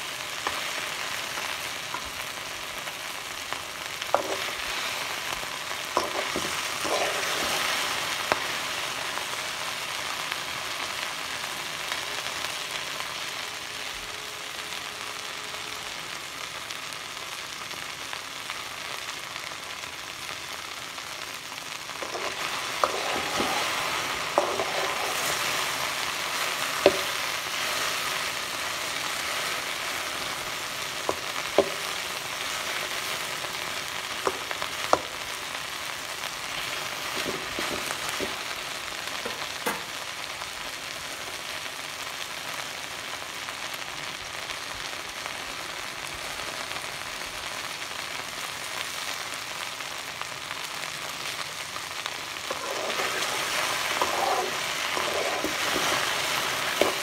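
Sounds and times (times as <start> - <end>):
okra sizzling in a pan: 0.0 - 57.0.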